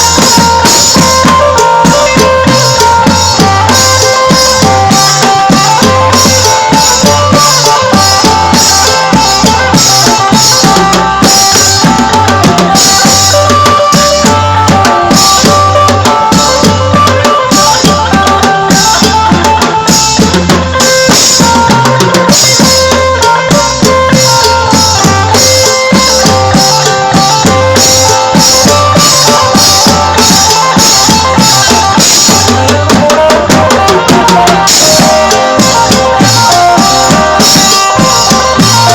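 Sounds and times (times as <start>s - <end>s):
band playing dance tune: 0.0s - 38.9s
drum kit beat: 0.0s - 38.9s.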